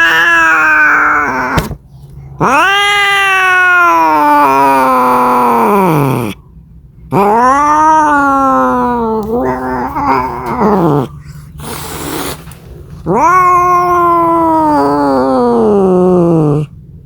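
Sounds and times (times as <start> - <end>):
cat yowling: 0.0 - 1.6, 2.4 - 6.4, 7.1 - 12.4, 13.0 - 16.7.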